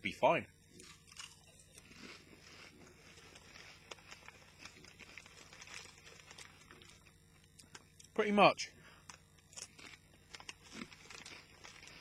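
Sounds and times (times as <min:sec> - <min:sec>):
crisps being chewed: 0:00.7 - 0:08.1, 0:09.1 - 0:12.0.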